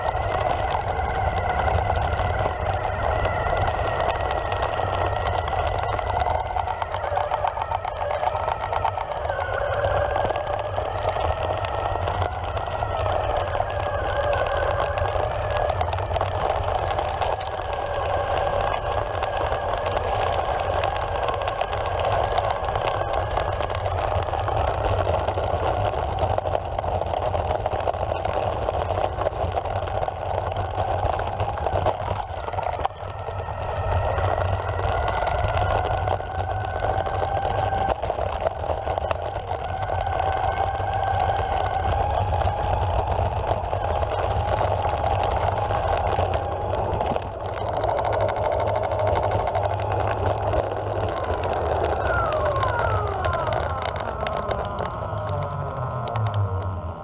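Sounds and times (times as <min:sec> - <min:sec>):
electric skateboard motors whining: 0:00.0 - 0:57.0
low rumble: 0:00.0 - 0:57.0.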